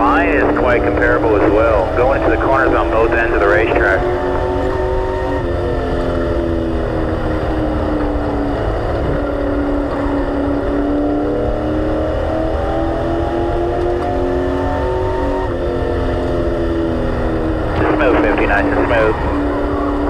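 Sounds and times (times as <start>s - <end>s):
constant low rumble: 0.0s - 11.7s, 12.3s - 20.0s
race car engine revving: 0.0s - 20.0s.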